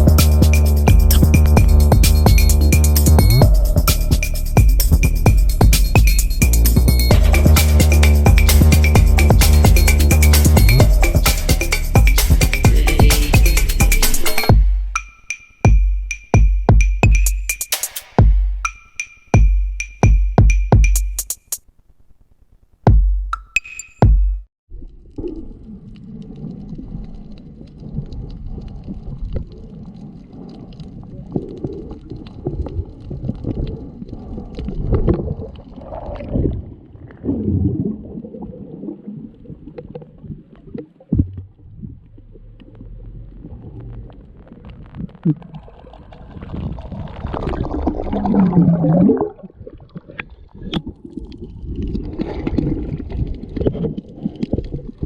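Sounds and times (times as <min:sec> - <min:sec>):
muffled underwater sea rumbling: 0:00.0 - 0:15.0, 0:24.7 - 0:55.0
water bubbling: 0:00.0 - 0:15.1, 0:24.7 - 0:55.0.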